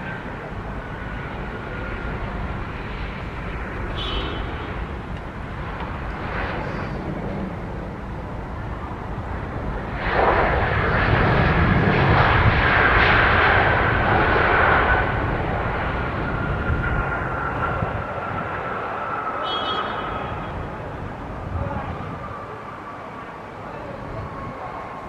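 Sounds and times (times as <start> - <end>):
airliner engines passing: 0.0 - 25.0
high engine whine: 0.0 - 25.0.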